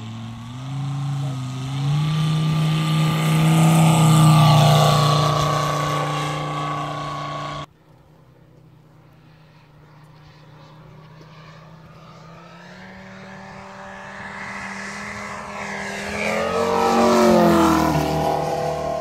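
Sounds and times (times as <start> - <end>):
model plane engine roaring: 0.0 - 19.0.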